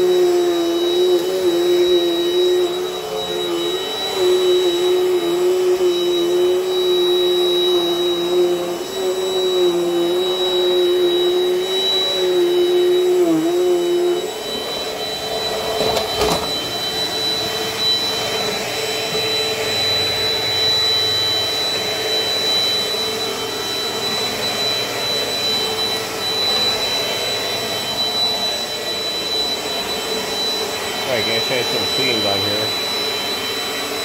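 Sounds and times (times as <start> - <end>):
vacuum cleaner whining: 0.0 - 34.0.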